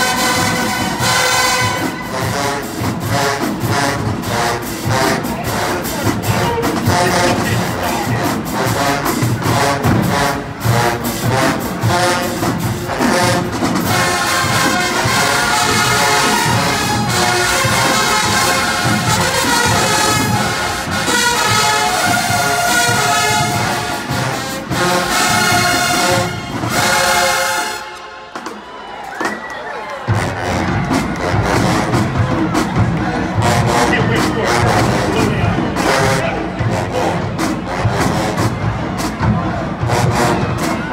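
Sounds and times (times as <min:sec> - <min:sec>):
marching band playing: 0:00.0 - 0:40.9.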